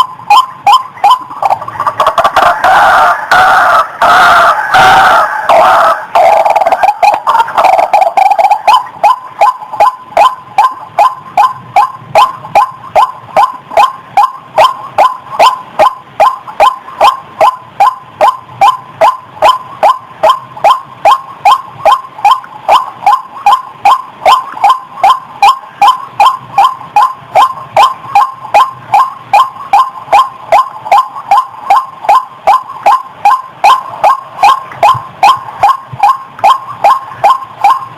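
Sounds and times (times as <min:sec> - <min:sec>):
waterhen calling: 0:00.3 - 0:37.9.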